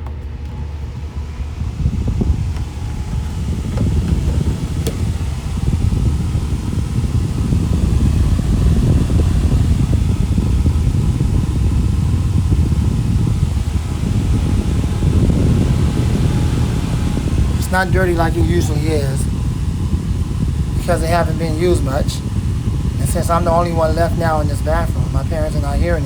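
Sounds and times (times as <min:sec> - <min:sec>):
fan rushing air: 0:00.0 - 0:26.0.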